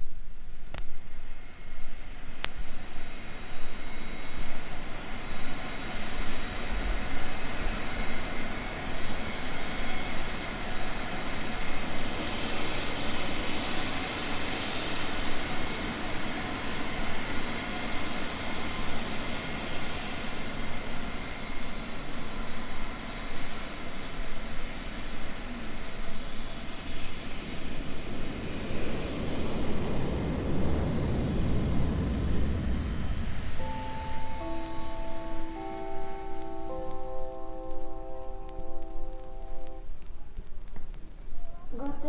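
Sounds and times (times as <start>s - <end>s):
jet engines rushing with turbine whine: 0.0s - 42.0s.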